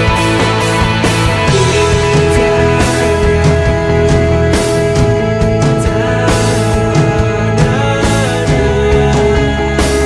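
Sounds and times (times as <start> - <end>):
music with steady beat: 0.0 - 10.0
sustained guitar-like tones: 0.0 - 10.0.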